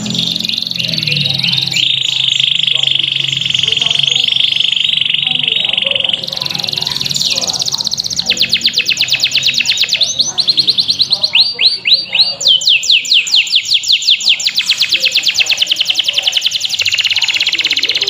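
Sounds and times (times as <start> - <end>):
canary singing rolling trill: 0.0 - 18.0.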